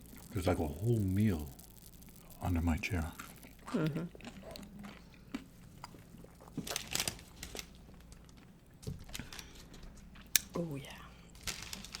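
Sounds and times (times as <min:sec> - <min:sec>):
tortilla chips crunching: 0:00.0 - 0:09.8, 0:11.4 - 0:12.0.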